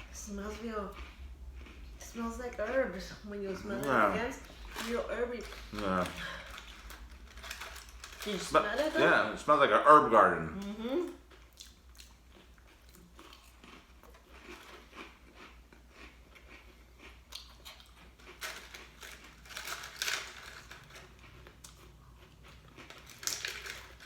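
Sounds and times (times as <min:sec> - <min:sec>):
crackers crunching being chewed: 0:00.0 - 0:03.0, 0:03.6 - 0:09.4, 0:11.0 - 0:24.0.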